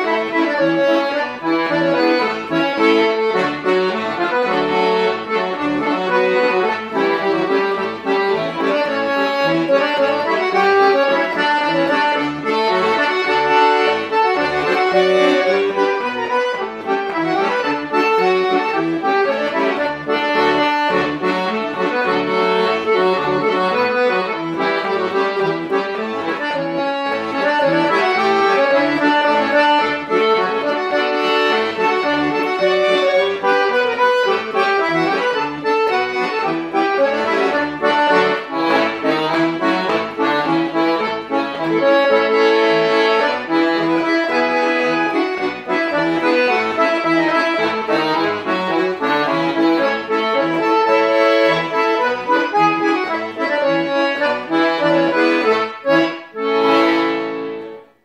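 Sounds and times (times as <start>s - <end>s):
accordion playing a polka: 0.0s - 58.0s.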